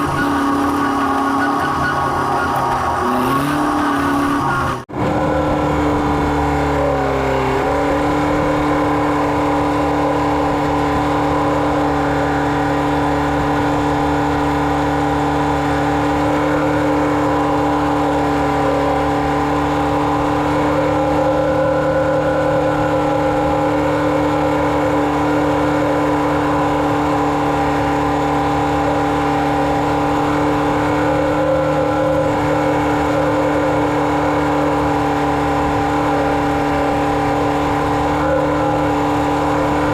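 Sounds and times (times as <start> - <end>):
engine running under load: 0.0 - 39.9.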